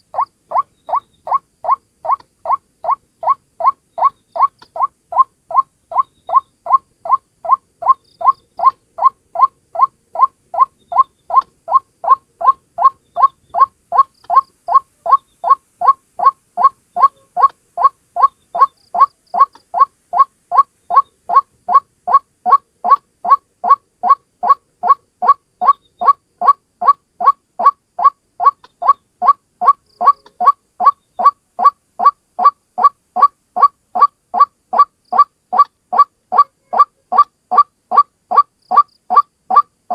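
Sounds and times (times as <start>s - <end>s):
bird repeating kwak call: 0.0s - 39.9s.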